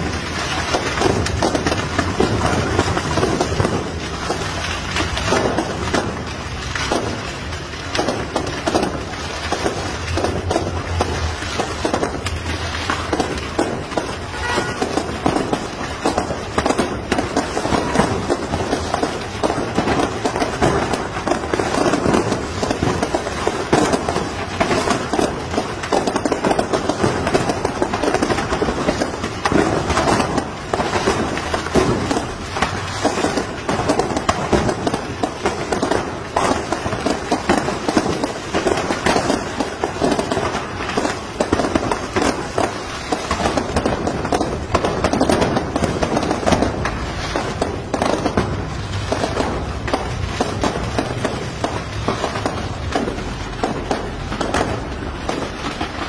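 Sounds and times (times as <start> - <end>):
fireworks crackling and bursting: 0.0 - 56.0.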